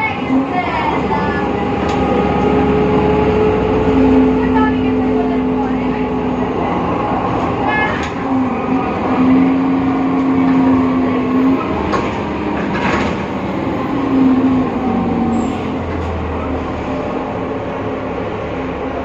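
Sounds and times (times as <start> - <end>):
bus running: 0.0 - 19.0.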